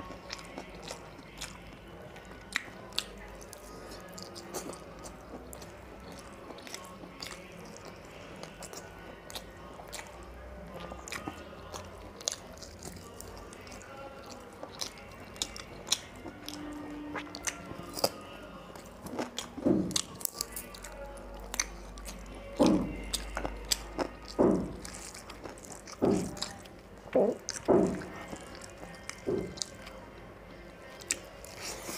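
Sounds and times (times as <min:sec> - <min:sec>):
person chewing and biting: 0:00.0 - 0:30.0, 0:31.0 - 0:31.9.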